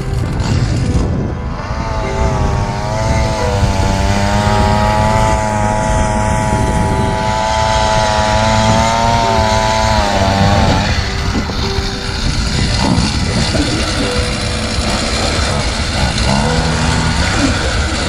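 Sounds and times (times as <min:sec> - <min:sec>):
small motor whining: 0:00.0 - 0:18.0.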